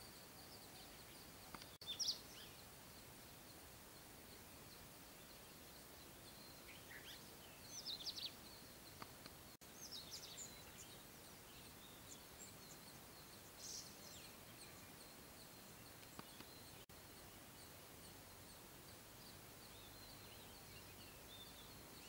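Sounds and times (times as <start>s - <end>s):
small birds chirping: 0.0s - 22.0s
steady background hiss: 0.0s - 22.0s.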